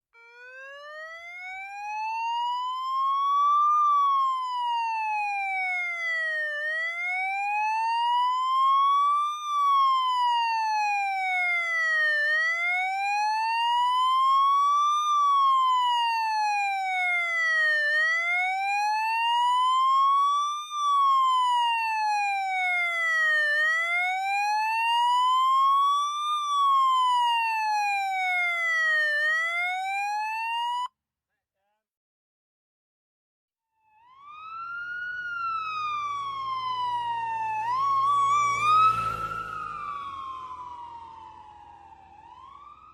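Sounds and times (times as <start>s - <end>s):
police siren slow wail: 0.1s - 30.9s, 33.8s - 42.9s.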